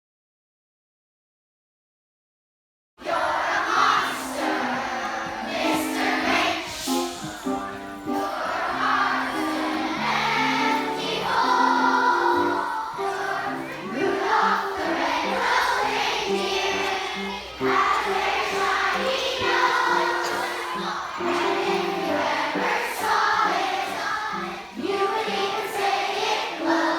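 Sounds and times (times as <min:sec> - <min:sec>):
group of voices singing: 0:03.0 - 0:26.9.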